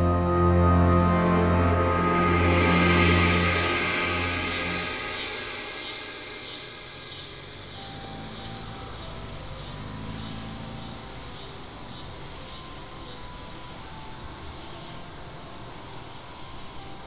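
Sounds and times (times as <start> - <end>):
insects chirring: 0.1 - 17.0.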